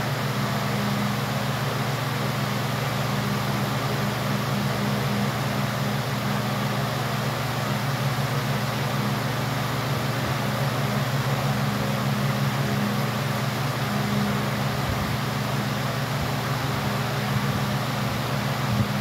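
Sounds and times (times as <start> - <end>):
floor fans running: 0.0 - 19.0.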